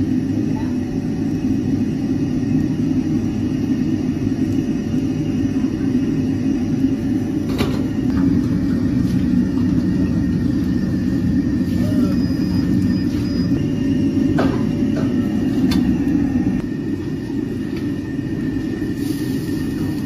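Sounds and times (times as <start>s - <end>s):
stove fire roaring: 0.0s - 20.0s.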